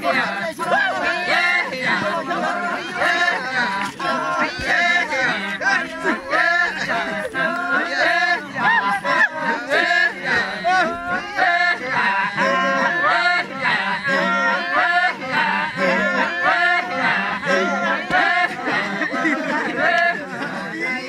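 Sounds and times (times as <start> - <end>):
low droning voices: 0.0 - 21.0
men chanting in rising phrases: 0.0 - 21.0.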